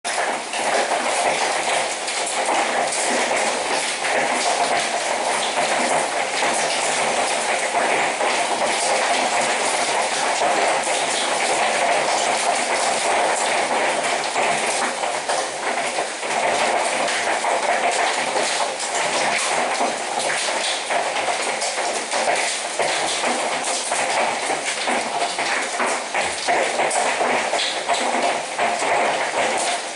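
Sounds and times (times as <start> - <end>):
hail drumming on window: 0.1 - 29.9.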